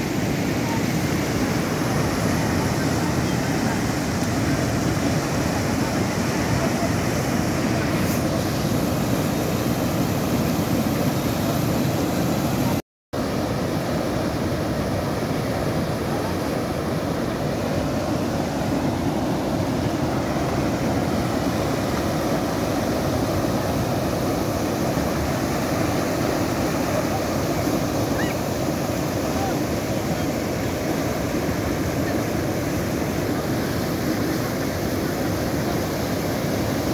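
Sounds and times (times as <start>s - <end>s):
water cascading over rocks: 0.0s - 36.9s.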